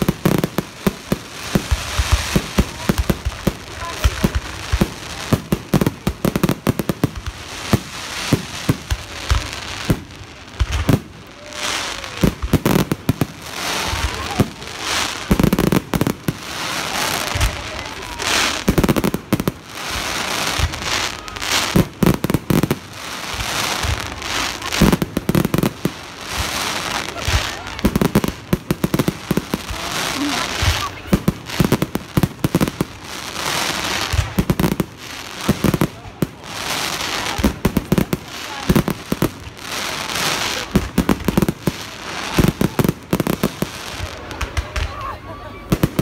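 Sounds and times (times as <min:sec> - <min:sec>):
rushing crackling bursts: 0:00.0 - 0:45.0
fireworks bangs and crackles: 0:00.0 - 0:46.0
loud firework cracks: 0:00.0 - 0:46.0.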